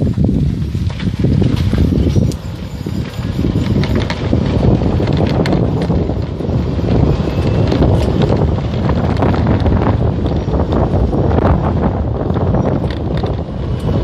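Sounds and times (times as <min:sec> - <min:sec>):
wind buffeting microphone: 0:00.0 - 0:14.0
small clicks and crackles: 0:00.6 - 0:11.1, 0:12.2 - 0:14.0.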